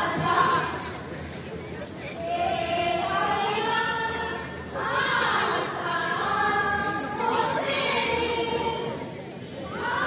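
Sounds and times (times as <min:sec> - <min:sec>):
group of high voices singing: 0:00.0 - 0:01.0, 0:02.2 - 0:09.1, 0:09.7 - 0:10.0.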